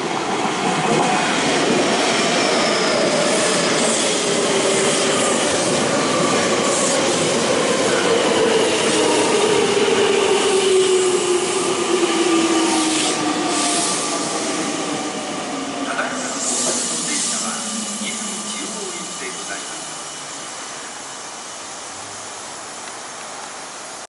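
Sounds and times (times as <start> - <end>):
wheels rumbling on rail: 0.0 - 24.0.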